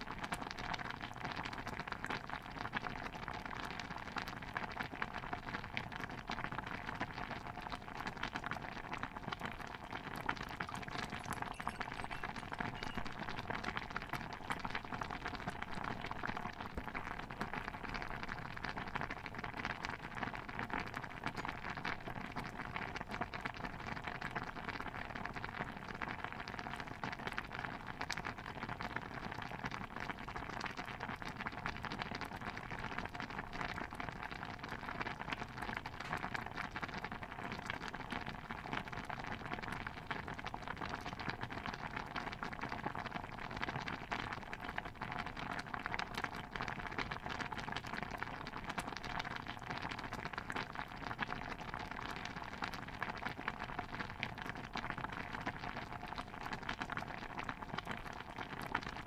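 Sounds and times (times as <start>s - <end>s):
stew bubbling: 0.1s - 59.0s.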